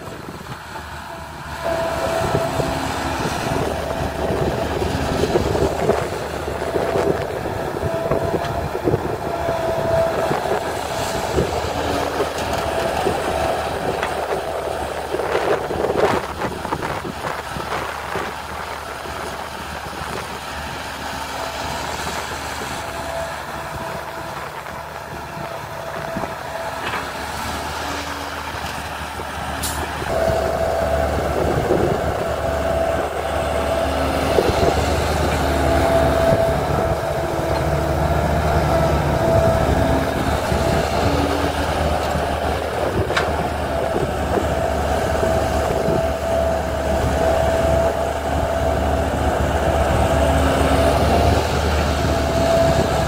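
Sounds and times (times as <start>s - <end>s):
excavator diesel engine: 0.0s - 53.0s
high hydraulic whine: 0.0s - 53.0s.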